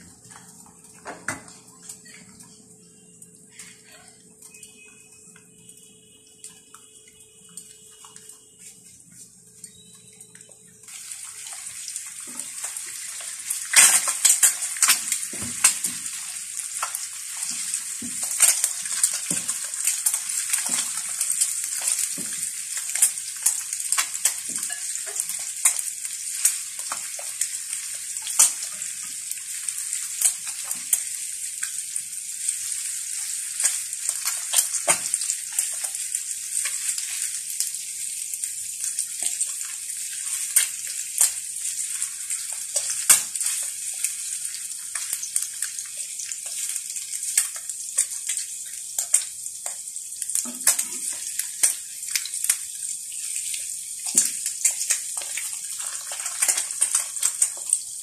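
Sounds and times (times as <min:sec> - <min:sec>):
egg and bacon sizzling: 0:00.0 - 0:58.0.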